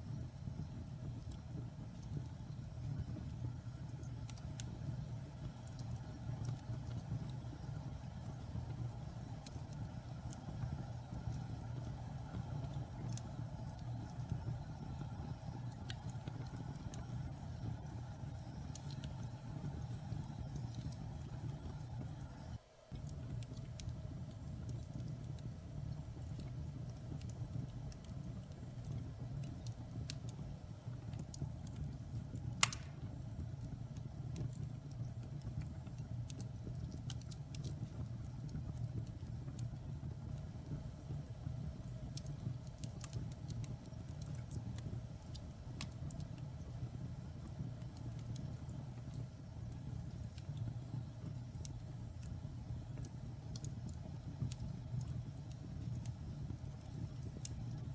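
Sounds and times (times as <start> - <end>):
fire flames rumbling: 0.0 - 57.9
wood fire crackling and popping: 0.0 - 57.9.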